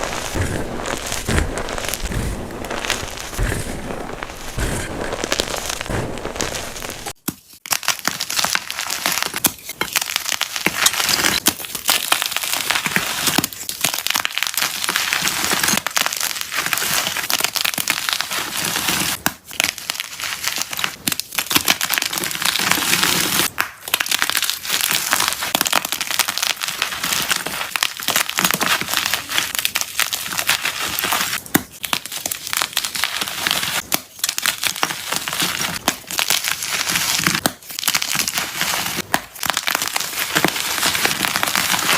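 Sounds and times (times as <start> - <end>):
chalk blocks crunching: 0.0 - 41.9.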